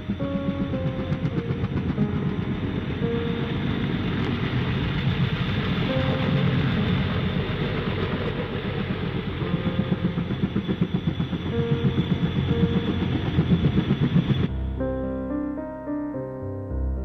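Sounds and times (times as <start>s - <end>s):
rumbling rattling mechanical noise: 0.0s - 14.5s.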